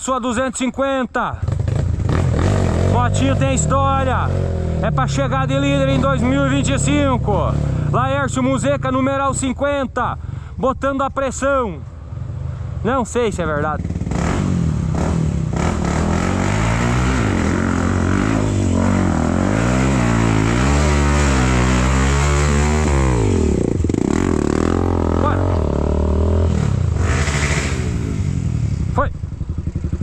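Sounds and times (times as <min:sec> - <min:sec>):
motorcycle engine revving: 0:01.3 - 0:09.6, 0:11.8 - 0:30.0.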